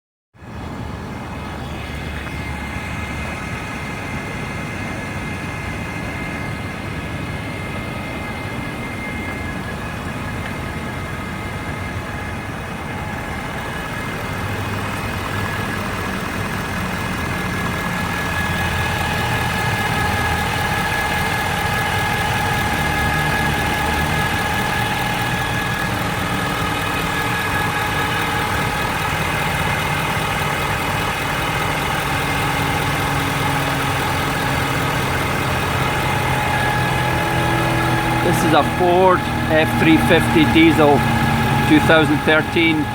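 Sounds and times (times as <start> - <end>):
diesel engine idling: 0.4 - 42.9
high-pitched engine whine: 0.4 - 42.9.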